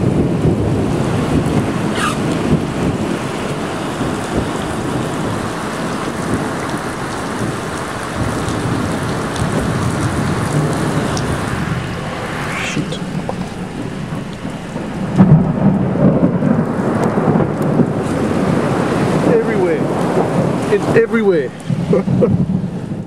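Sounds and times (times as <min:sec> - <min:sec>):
thunder: 0:00.0 - 0:20.7, 0:21.7 - 0:23.0
heavy rain and wind: 0:00.0 - 0:23.0.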